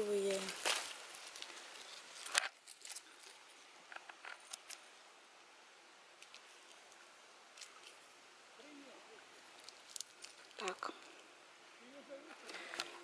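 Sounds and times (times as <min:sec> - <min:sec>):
leaves and twigs rustling: 0:00.0 - 0:13.0.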